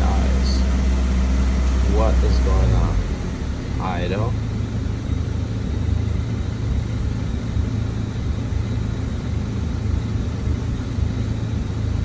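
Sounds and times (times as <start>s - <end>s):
car engine idling unevenly: 0.0s - 12.0s.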